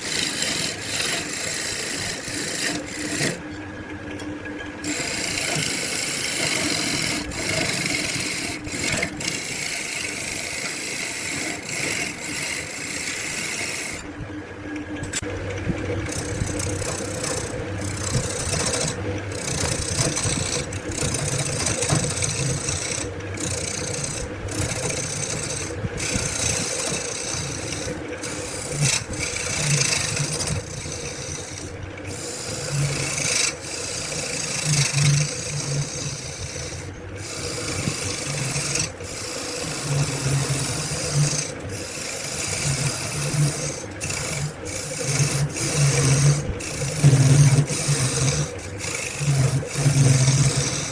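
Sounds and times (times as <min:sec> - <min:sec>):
wood being rasped by hand: 0:00.0 - 0:03.4, 0:04.8 - 0:14.0, 0:16.0 - 0:50.9.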